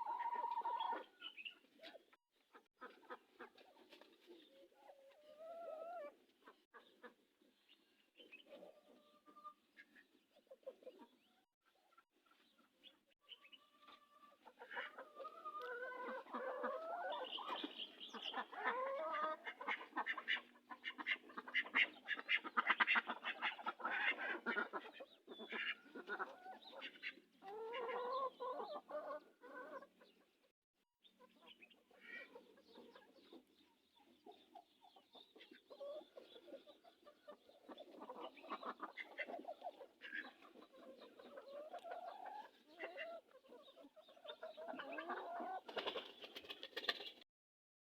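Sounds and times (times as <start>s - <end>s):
chickens clucking and squawking: 0.0s - 47.2s.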